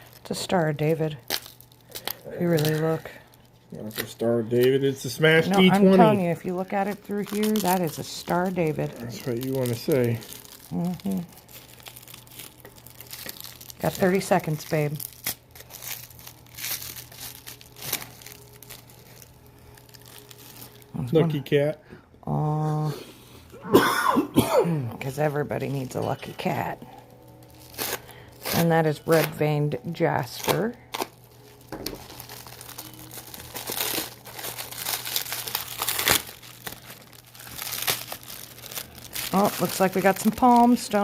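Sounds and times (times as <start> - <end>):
wrapping being crinkled: 0.0 - 21.5, 25.0 - 41.0.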